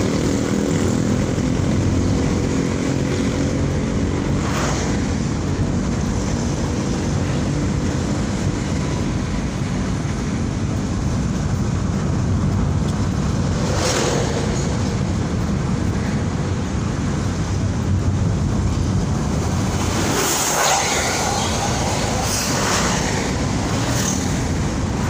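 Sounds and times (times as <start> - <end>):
car cabin road and engine rumble: 0.0 - 25.0
oncoming vehicles passing: 0.0 - 25.0.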